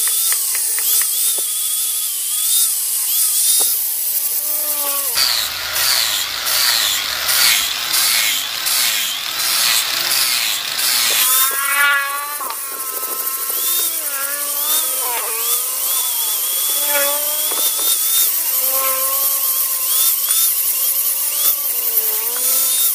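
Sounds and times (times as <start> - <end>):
angle grinder whine: 0.0 - 22.9
grinder grinding metal: 0.0 - 22.9.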